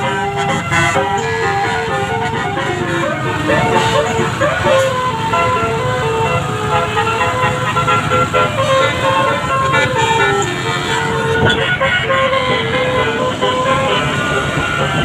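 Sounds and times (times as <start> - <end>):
musical air horn playing tune: 0.0 - 15.0.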